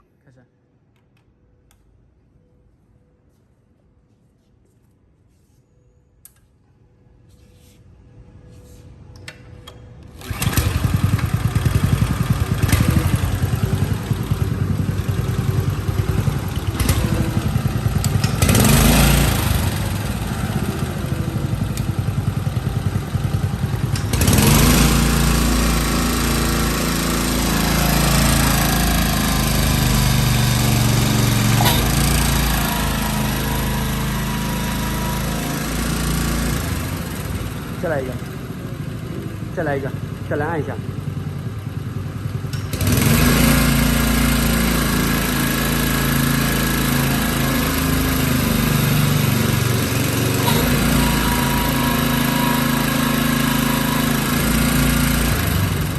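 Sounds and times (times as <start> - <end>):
small gasoline pump engine running: 10.2 - 55.9.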